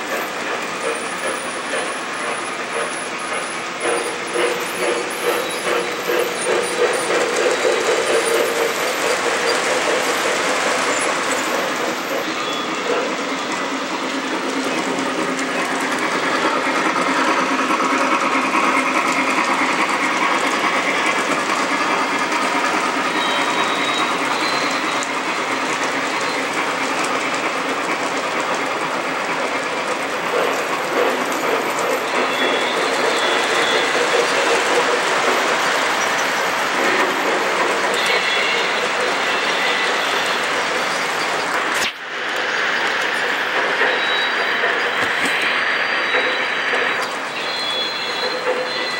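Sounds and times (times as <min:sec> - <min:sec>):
model train wheels clickety-clack: 0:00.0 - 0:48.9.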